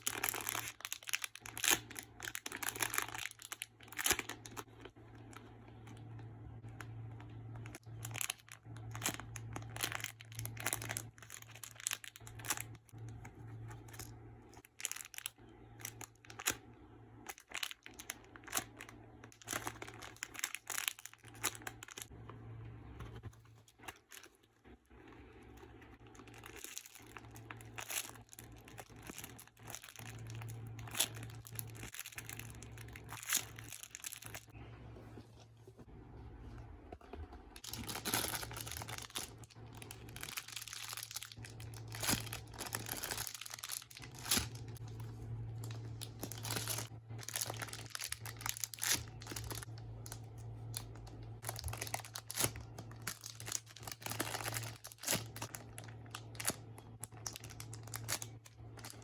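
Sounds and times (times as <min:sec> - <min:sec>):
crinkling and rustling: 0:00.0 - 0:59.0
steady low hum: 0:00.0 - 0:59.0.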